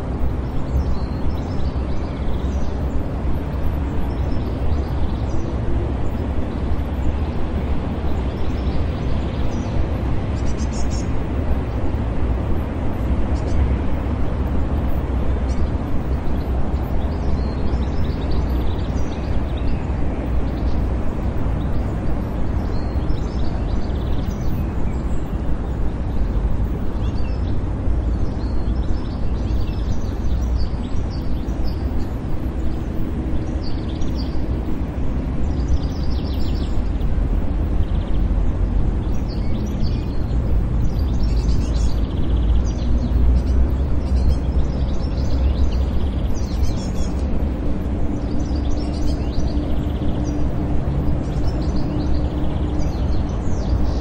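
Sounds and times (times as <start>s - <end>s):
distant traffic rumble: 0.0s - 54.0s
birds chirping: 0.3s - 54.0s.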